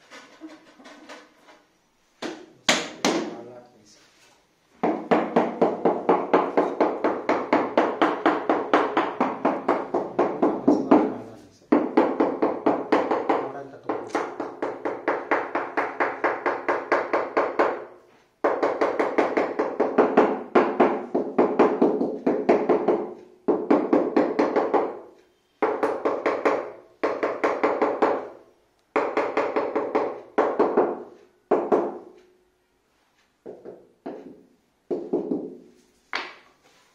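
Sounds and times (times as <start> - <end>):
floor tile being tapped: 4.8 - 32.3, 33.4 - 36.6.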